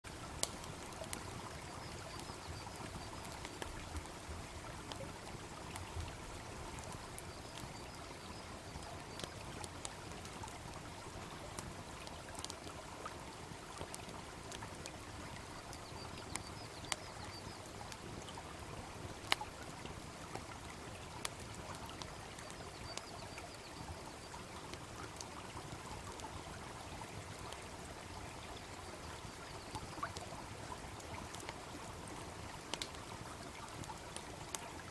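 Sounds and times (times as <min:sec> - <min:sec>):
babbling brook: 0:00.1 - 0:34.9
bonfire crackling: 0:00.1 - 0:34.9.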